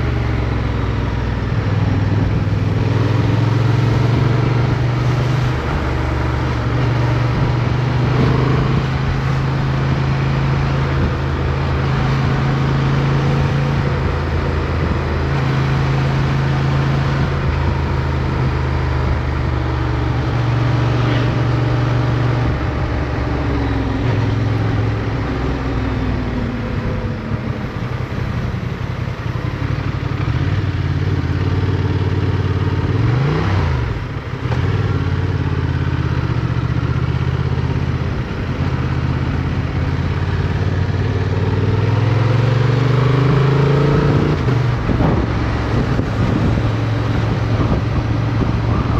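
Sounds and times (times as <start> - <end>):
motorcycle engine running: 0.0 - 33.0, 33.7 - 42.3, 44.1 - 48.9.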